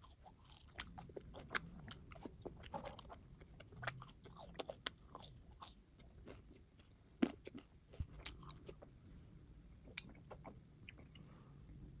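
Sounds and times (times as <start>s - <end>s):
person chewing and crunching food: 0.0s - 8.9s, 9.8s - 11.5s.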